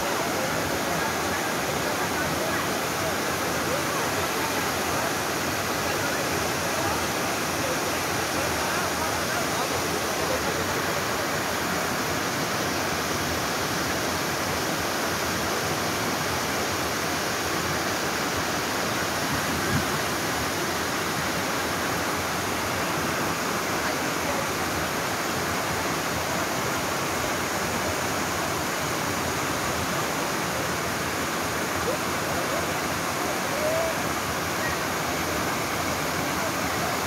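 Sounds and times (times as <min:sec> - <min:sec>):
small waterfall rushing: 0:00.0 - 0:37.0.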